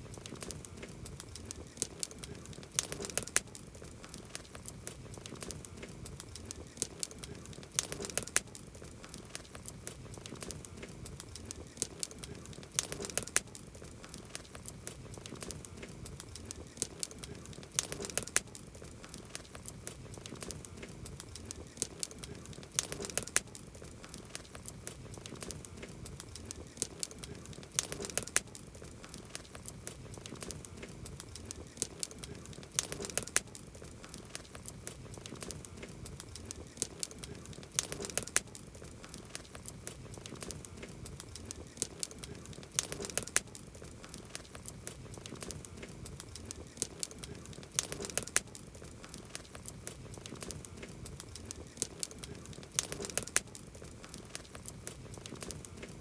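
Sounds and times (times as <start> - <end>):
campfire crackling: 0.0 - 56.0
soft steady hiss: 0.0 - 56.0.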